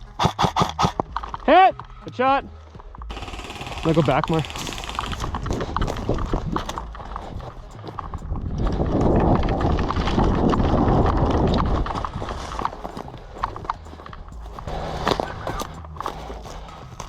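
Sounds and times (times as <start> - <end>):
footsteps: 0.0 - 17.0
gear clattering: 3.1 - 17.0.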